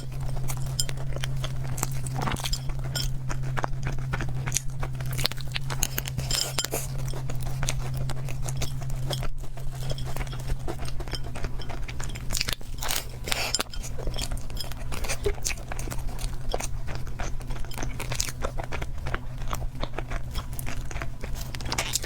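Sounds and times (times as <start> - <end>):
person chewing bread: 0.0 - 22.0
steady low hum: 0.0 - 22.0.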